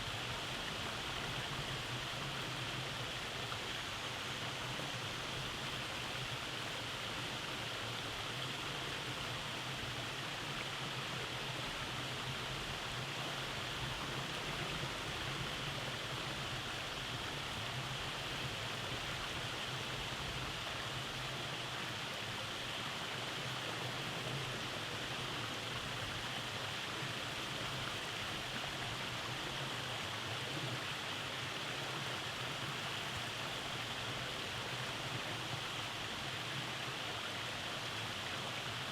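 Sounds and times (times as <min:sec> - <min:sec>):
stream running over cascades: 0:00.0 - 0:38.9.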